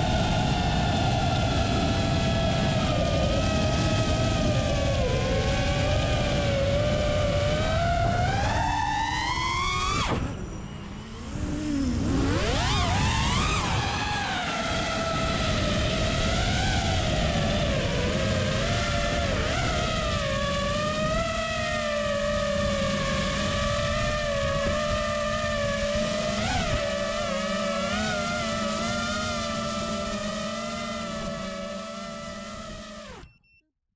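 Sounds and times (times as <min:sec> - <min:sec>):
wind rumble on microphone: 0:00.0 - 0:33.3
drone motors whining: 0:00.0 - 0:33.6.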